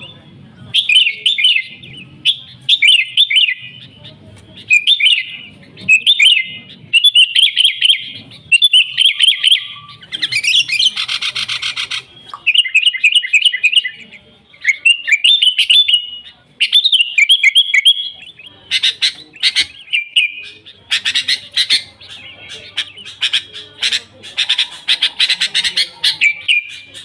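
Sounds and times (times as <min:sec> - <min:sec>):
bird chattering notes: 0:00.0 - 0:27.0
bulbul singing: 0:00.0 - 0:27.0.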